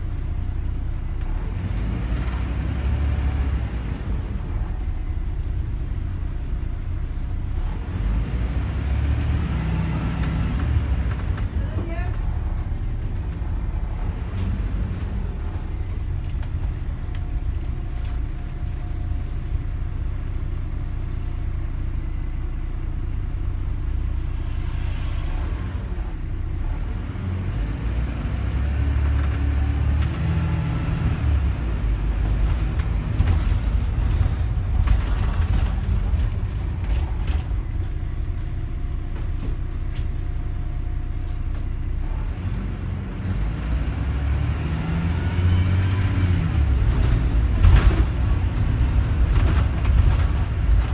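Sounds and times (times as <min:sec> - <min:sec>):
bus diesel engine rumbling: 0:00.0 - 0:50.9.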